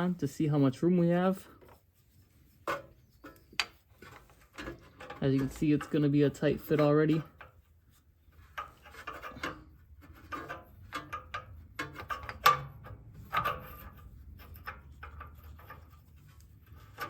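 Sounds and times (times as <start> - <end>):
metal socket scraping and clicking: 2.7 - 17.0.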